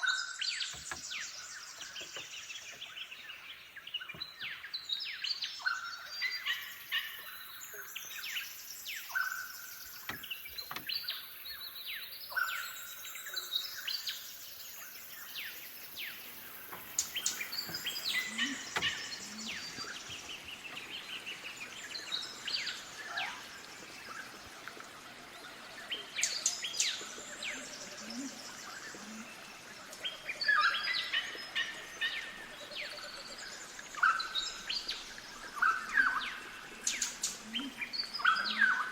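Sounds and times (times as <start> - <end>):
birds chirping: 0.5 - 38.9.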